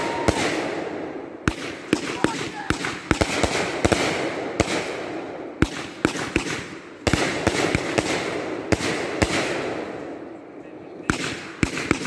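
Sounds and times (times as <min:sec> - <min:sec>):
fireworks bangs: 0:00.0 - 0:10.2, 0:11.0 - 0:12.0.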